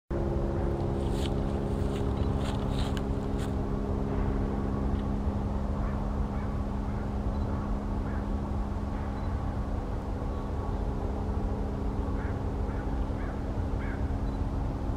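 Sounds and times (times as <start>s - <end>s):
low machine hum: 0.1s - 14.9s.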